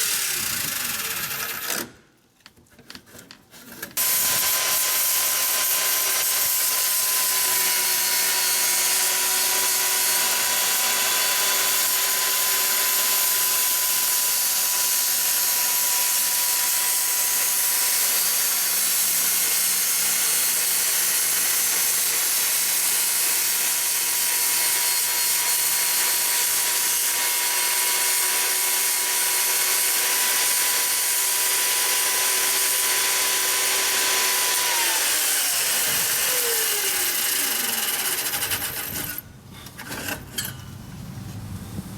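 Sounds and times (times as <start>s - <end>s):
power saw cutting wood: 0.0s - 2.0s, 4.0s - 40.6s.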